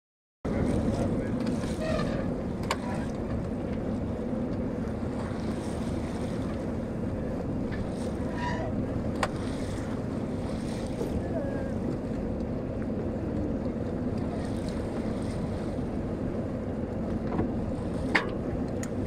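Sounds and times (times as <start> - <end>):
water washing against hull: 0.5 - 19.0.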